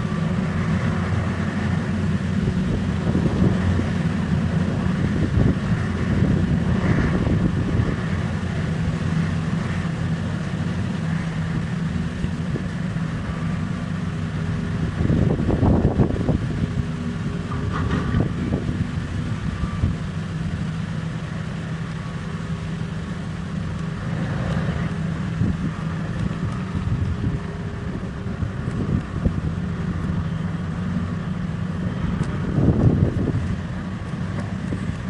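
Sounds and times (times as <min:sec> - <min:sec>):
diesel engine droning: 0:00.0 - 0:35.0.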